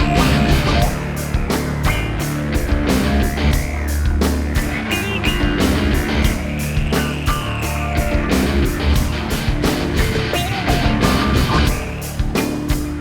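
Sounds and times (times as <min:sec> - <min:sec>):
distorted guitar: 0:00.0 - 0:13.0
rock music: 0:00.0 - 0:13.0.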